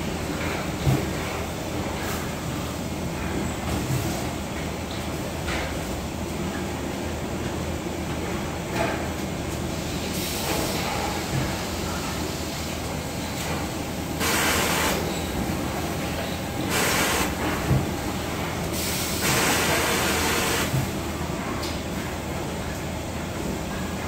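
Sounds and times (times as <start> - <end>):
factory floor hum: 0.0 - 24.0.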